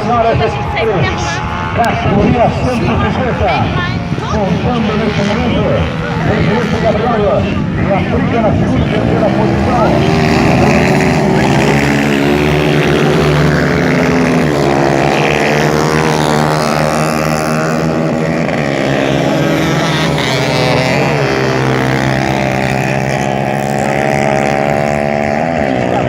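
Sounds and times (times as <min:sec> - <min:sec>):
racing motorcycles revving: 0:00.0 - 0:26.0.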